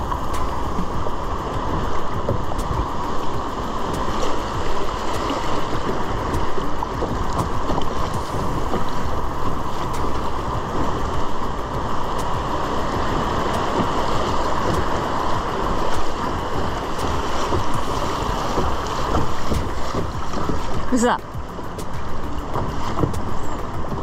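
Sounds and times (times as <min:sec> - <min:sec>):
river water rushing over rapids: 0:00.0 - 0:24.0
wind rumbling on microphone: 0:00.0 - 0:24.0.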